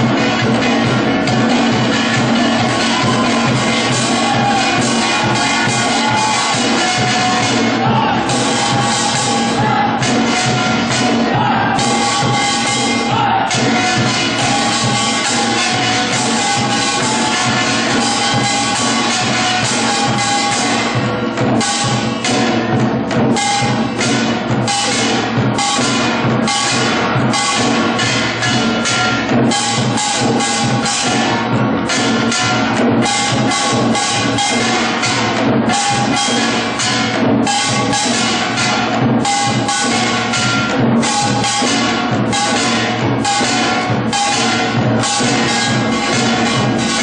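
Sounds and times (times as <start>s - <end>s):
drums and gongs beat: 0.0s - 47.0s.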